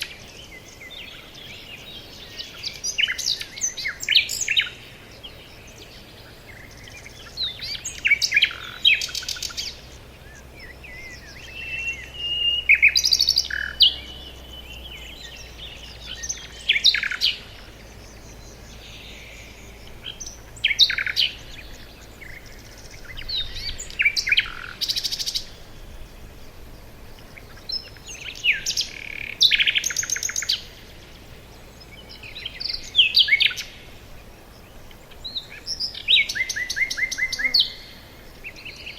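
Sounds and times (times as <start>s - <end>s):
birds singing and chirping: 0.0s - 38.9s
faint steady hum: 0.0s - 38.9s.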